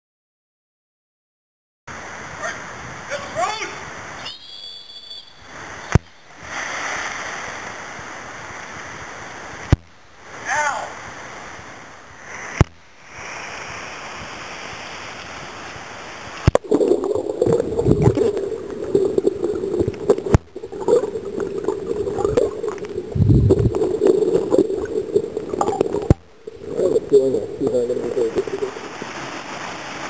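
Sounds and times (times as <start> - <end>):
rushing gurgling water: 5.4 - 30.0.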